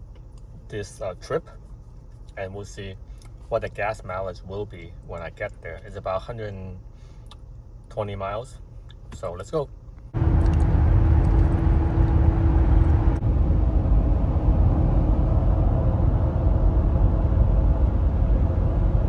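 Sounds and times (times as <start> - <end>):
car road and engine rumble: 0.0 - 19.0
faint hum: 0.0 - 19.0.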